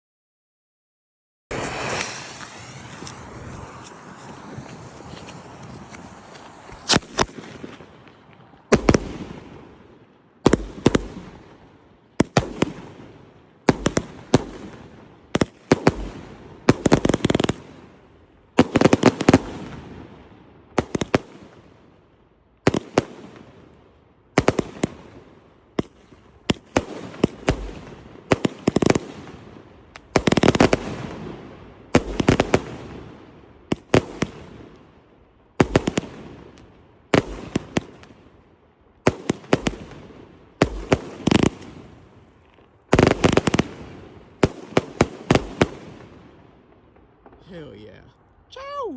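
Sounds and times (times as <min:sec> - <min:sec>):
firework crackle: 0:01.5 - 0:48.0.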